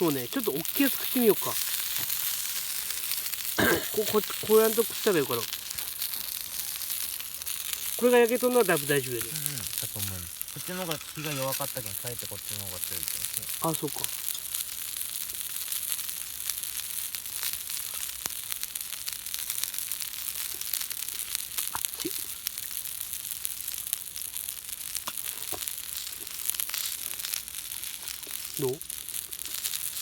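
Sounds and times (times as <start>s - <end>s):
food sizzling on a griddle: 0.0s - 30.0s.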